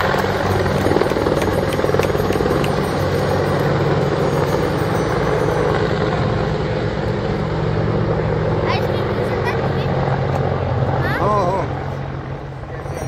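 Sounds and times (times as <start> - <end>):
helicopter engine drone: 0.0 - 13.0
helicopter rotor beat: 0.0 - 13.0.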